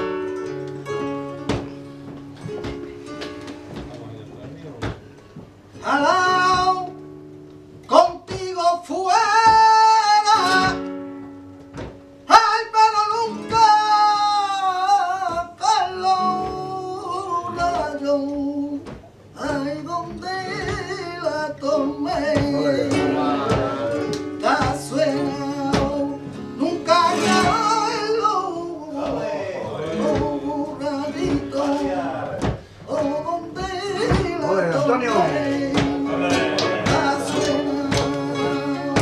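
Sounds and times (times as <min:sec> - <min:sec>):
flamenco guitar: 0:00.0 - 0:39.0
man singing flamenco: 0:05.7 - 0:39.0.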